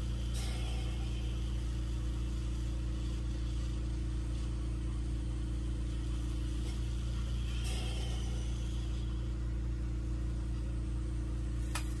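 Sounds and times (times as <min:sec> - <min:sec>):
torch flame burning: 0:00.0 - 0:10.6
electric motor hum: 0:00.0 - 0:12.0.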